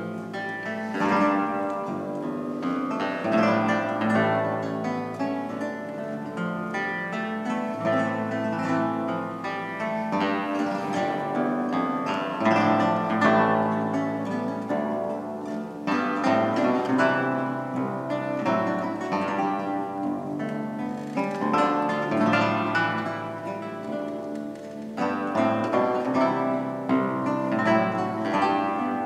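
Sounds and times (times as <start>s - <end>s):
plucked lutes playing baroque piece: 0.0s - 29.0s.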